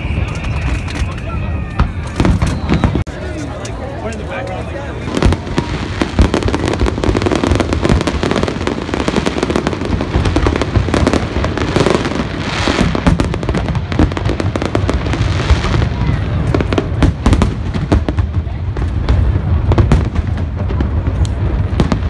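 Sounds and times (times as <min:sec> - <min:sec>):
fireworks cracking and popping: 0:00.0 - 0:22.0
hissing crackle of fireworks: 0:00.0 - 0:22.0.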